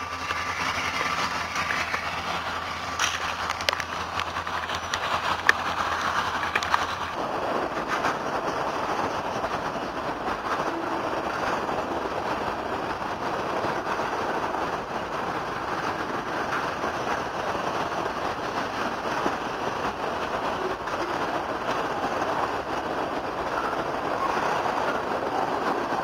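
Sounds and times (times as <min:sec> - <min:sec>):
freight cars rumbling on rails: 0:00.0 - 0:26.0.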